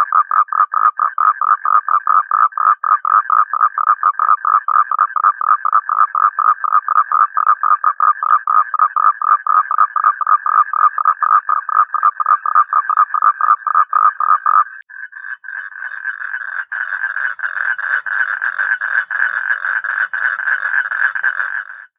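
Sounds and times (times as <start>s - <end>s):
toad trill: 0.0s - 21.9s
toads croaking rhythmically: 0.0s - 21.9s.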